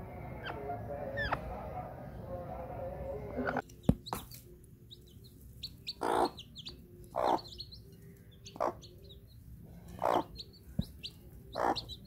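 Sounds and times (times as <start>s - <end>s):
chicks peeping: 0.1s - 2.4s, 3.0s - 12.0s.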